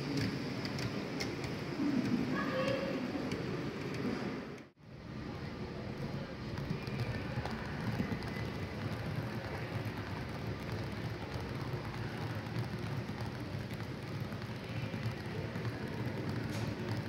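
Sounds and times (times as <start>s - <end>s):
faint crackling clatter: 0.0s - 17.0s
model train wheels rumbling: 0.0s - 17.0s.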